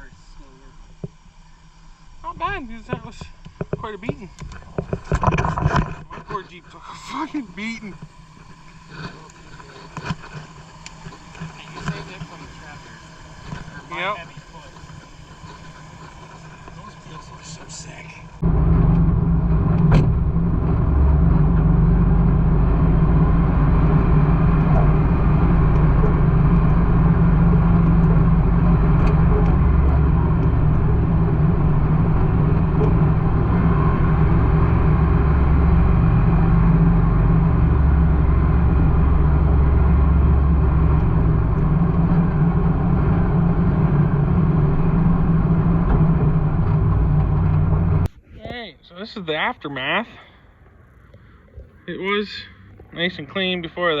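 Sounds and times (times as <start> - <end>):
vehicle engine and road noise: 0.0 - 48.2, 49.2 - 54.0.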